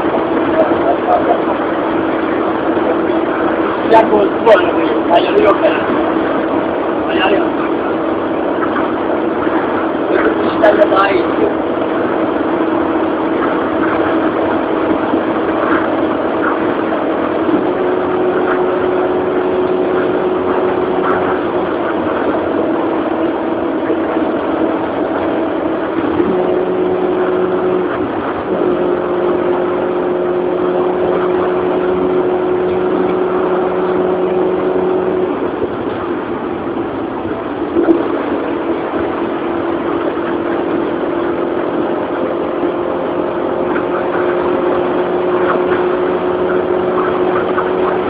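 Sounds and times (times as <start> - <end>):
car engine running: 0.0 - 48.0
road noise: 0.0 - 48.0.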